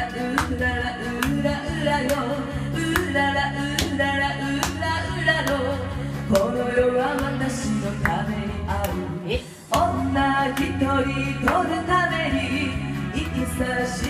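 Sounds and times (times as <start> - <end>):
upbeat band music: 0.0 - 14.0.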